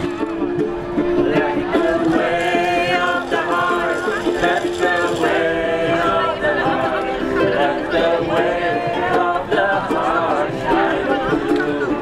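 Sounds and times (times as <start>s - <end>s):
group singing: 1.0s - 12.0s.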